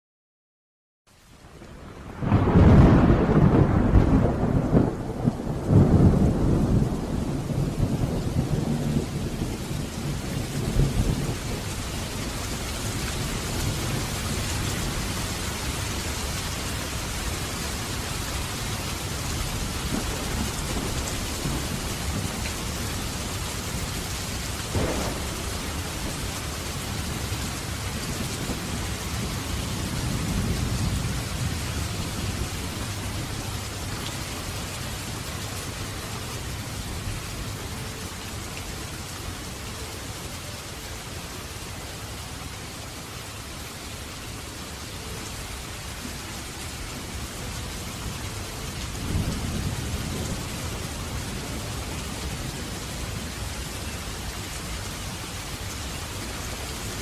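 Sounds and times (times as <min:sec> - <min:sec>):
steady rain: 0:01.1 - 0:57.0.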